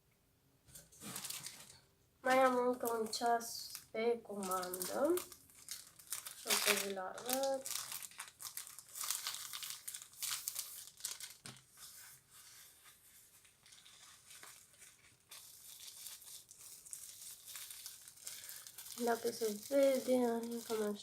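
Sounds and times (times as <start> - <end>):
packaging crinkling: 0.9 - 12.1, 13.3 - 21.0
packaging tearing: 1.0 - 1.7, 2.4 - 11.8, 13.6 - 21.0.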